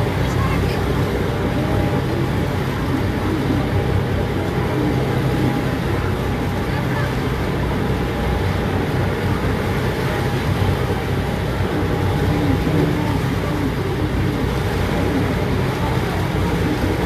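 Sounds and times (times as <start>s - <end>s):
boat engine droning: 0.0s - 17.0s
water rushing: 0.0s - 17.0s.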